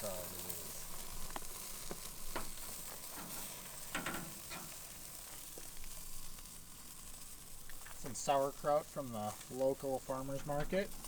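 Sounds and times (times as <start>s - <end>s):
sausages sizzling on a grill: 0.0s - 11.0s.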